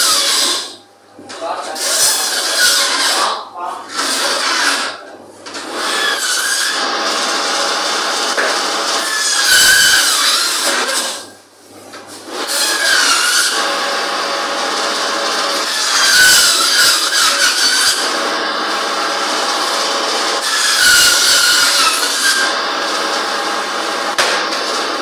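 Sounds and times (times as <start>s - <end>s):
band saw cutting bone: 0.0s - 0.8s, 1.7s - 11.3s, 12.4s - 25.0s.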